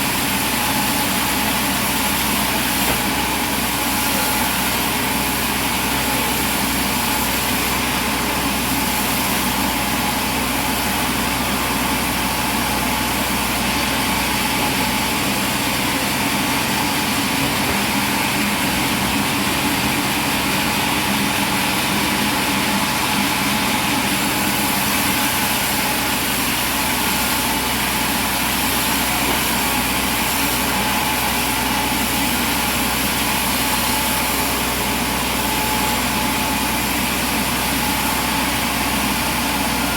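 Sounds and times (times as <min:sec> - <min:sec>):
machinery running: 0:00.0 - 0:39.9.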